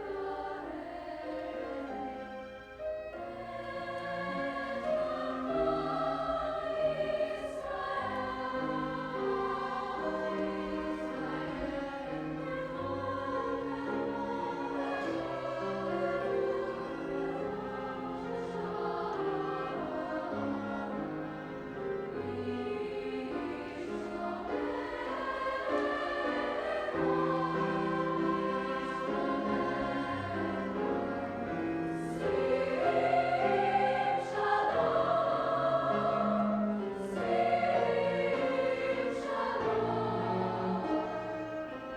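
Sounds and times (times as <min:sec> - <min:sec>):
choir singing: 0:00.0 - 0:41.9.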